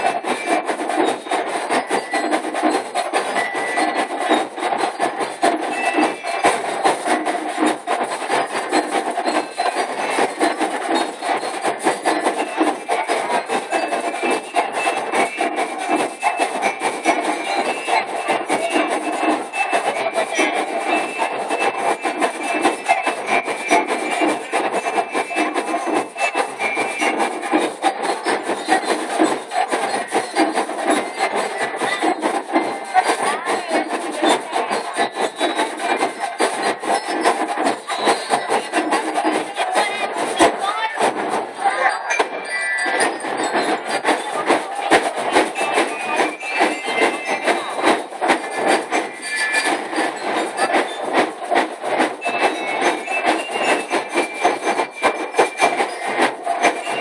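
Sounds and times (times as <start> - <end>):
marching band drums: 0.0 - 57.0.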